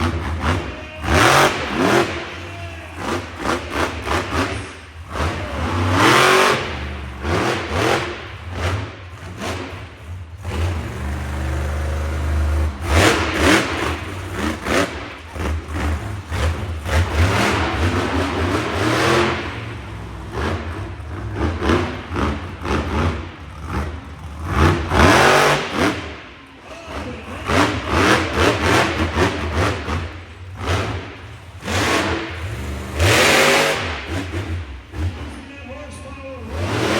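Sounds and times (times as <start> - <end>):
truck engine revving hard: 0.0 - 36.9.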